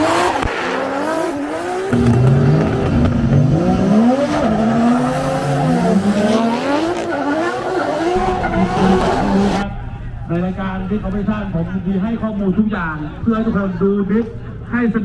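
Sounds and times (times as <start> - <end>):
car engines revving: 0.0 - 13.2.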